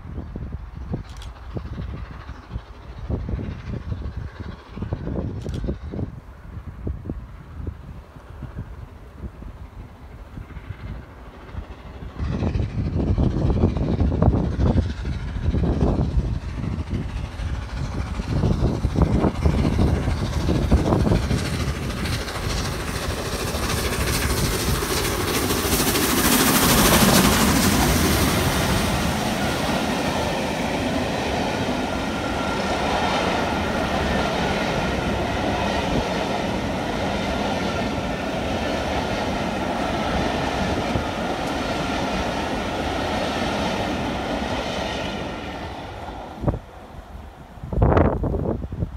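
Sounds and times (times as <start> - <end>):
train wheels clattering on rails: 0.0 - 46.8
steam locomotive passing: 0.0 - 48.9.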